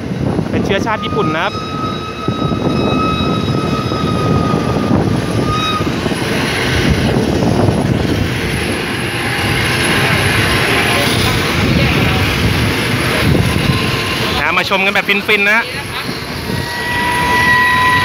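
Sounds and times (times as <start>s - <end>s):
train rumble and wind noise: 0.0s - 18.0s.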